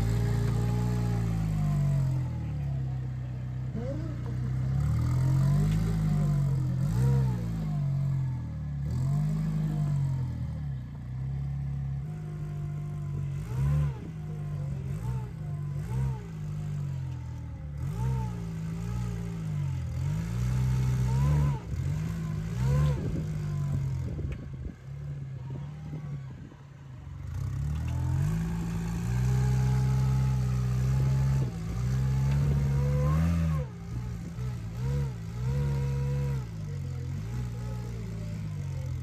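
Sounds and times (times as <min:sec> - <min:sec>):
buggy engine revving: 0:00.0 - 0:39.0.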